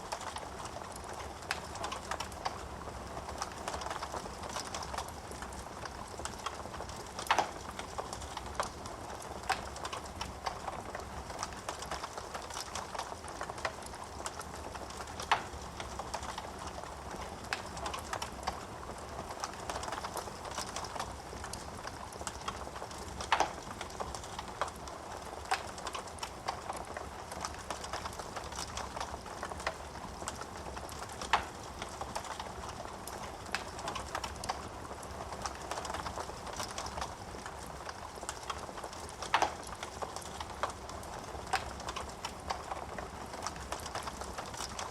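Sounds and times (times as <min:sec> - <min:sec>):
wood fire hissing and crackling: 0:00.0 - 0:44.9.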